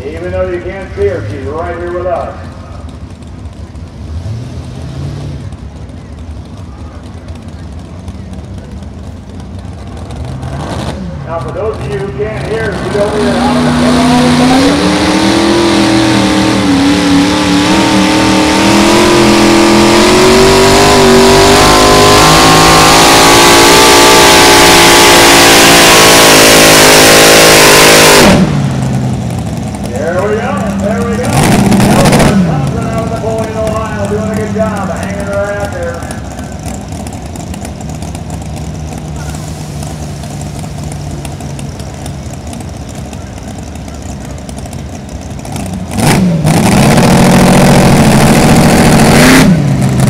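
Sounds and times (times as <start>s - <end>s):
tractor engine at high revs: 0.0s - 50.0s.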